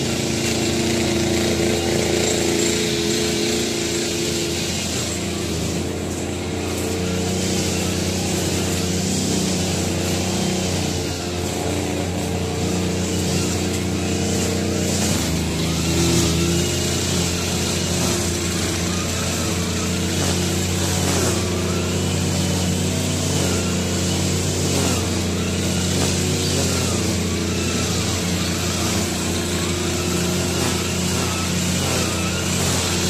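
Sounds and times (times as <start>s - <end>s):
brush cutter engine cutting grass: 0.0s - 33.0s.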